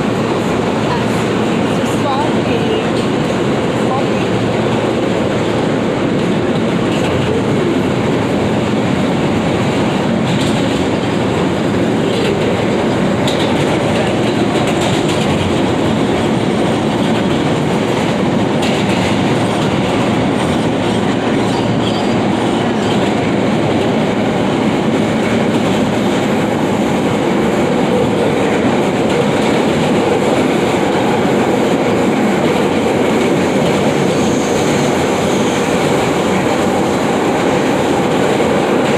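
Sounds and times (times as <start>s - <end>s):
subway train wheels rumbling: 0.0s - 38.9s.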